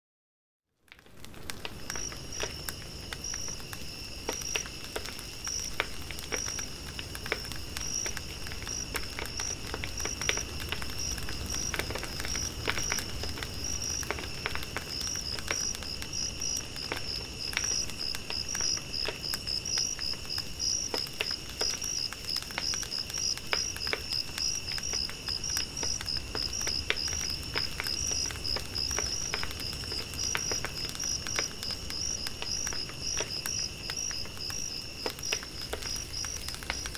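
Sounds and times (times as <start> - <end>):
campfire crackling and popping: 0.8 - 36.9
crickets chirping: 1.1 - 36.9.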